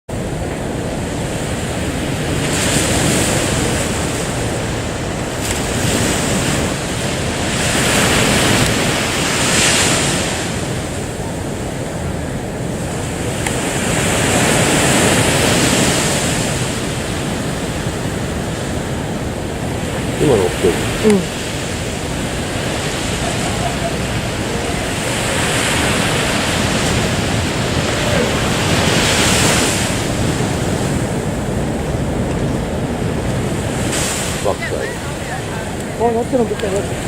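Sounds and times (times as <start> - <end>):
waves washing in: 0.1 - 37.0
wind rumbling on microphone: 0.1 - 37.0.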